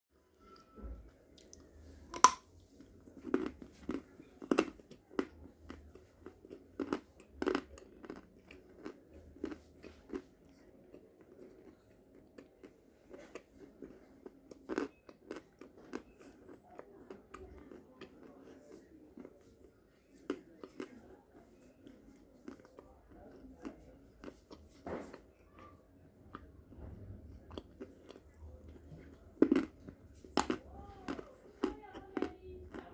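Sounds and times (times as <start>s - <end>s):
crunchy chalk chewing: 1.4s - 32.9s.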